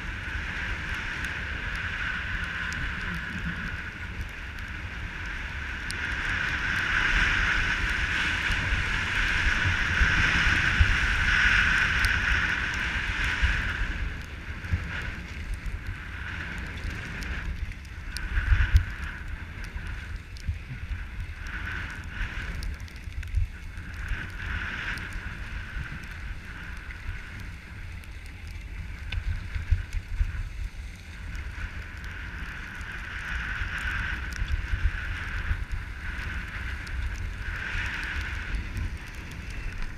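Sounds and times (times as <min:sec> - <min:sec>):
wind rumbling on microphone: 0:00.0 - 0:39.9.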